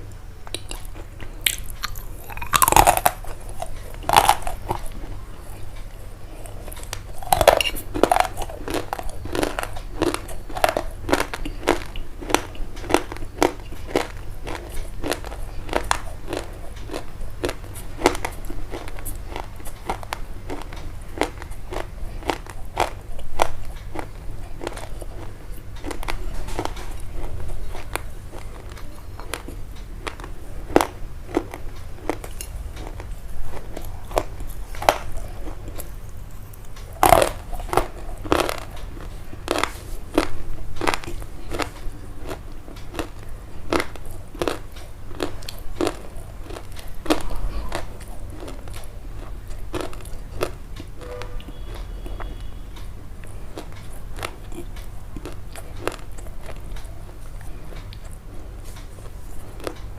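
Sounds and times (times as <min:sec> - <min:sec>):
steady low hum: 0:00.0 - 0:59.9
crisp crunches and crackles: 0:00.6 - 0:52.2.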